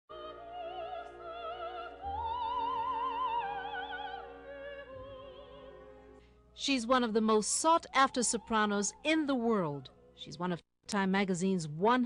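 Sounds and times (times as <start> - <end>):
operatic soprano singing: 0.1 - 10.0.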